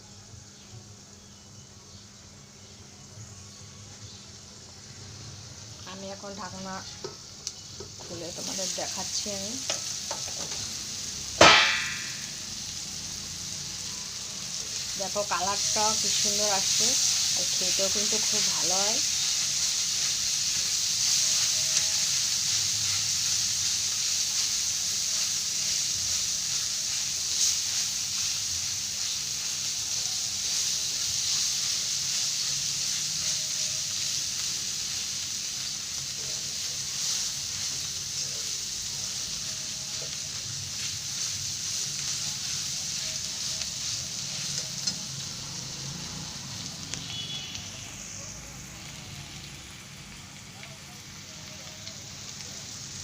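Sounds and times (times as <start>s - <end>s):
chutney sizzling in a pan: 0.0s - 53.0s.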